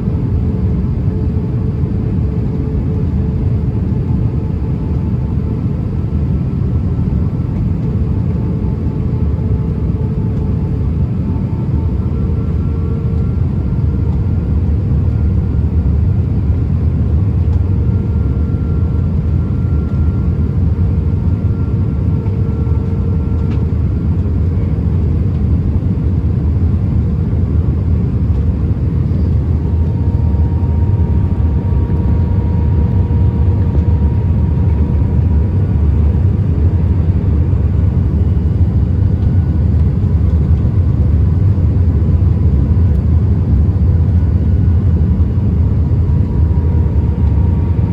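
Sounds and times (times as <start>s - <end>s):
engine and airflow rumble: 0.0s - 47.9s.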